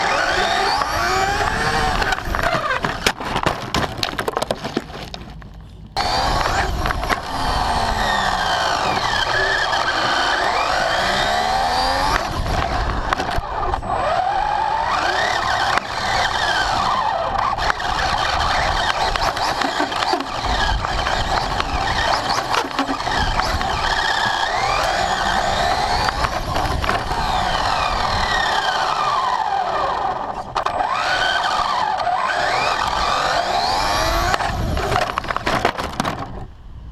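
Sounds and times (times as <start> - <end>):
rc car motor whining: 0.0 - 3.2, 6.0 - 35.6
tyre and ground noise: 0.0 - 36.9.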